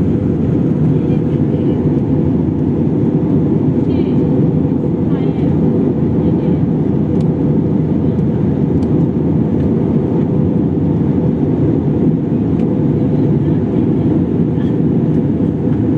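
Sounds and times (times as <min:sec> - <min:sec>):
airliner cabin noise in flight: 0:00.0 - 0:15.9.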